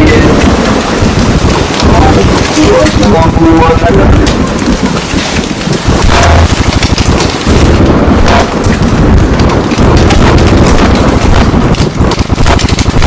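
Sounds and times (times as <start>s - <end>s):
heavy rain: 0.0s - 13.0s
low rumble of thunder: 0.0s - 13.0s
sharp crackles: 0.0s - 13.0s.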